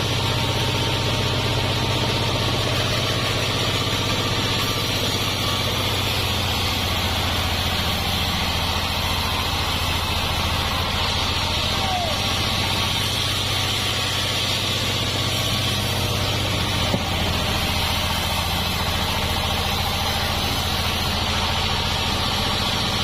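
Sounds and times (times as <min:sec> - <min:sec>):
sawmill engine humming: 0:00.0 - 0:23.0.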